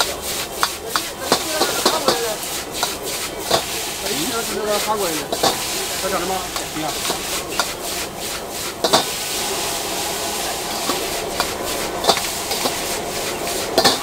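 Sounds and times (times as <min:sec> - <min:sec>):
gas flame hiss: 0:00.0 - 0:14.0
ladle scraping in wok: 0:00.0 - 0:14.0.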